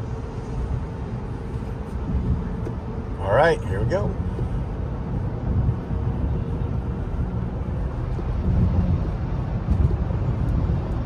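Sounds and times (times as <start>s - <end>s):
tyre and road noise rumble: 0.0s - 11.0s.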